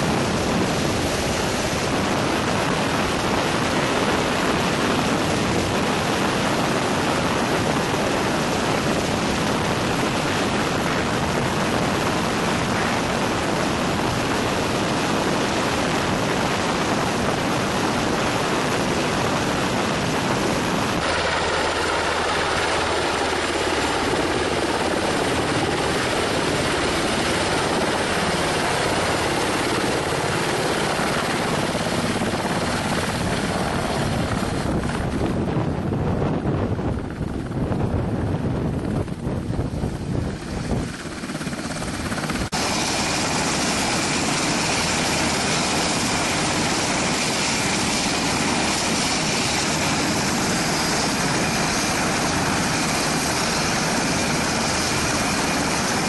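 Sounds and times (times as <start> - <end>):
helicopter hovering: 0.0 - 56.0.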